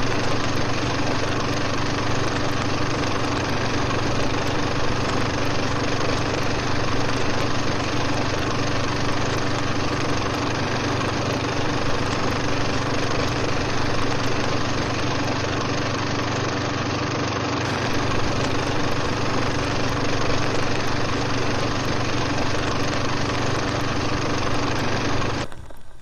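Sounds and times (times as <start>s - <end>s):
machine drone with low hum: 0.0s - 16.6s, 17.6s - 25.5s.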